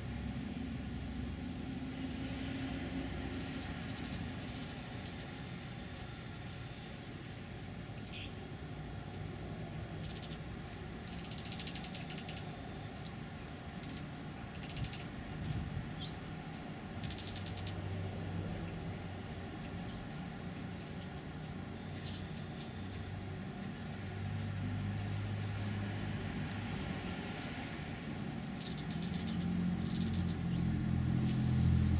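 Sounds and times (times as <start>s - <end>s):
birds chipping and trilling: 0.1s - 31.9s.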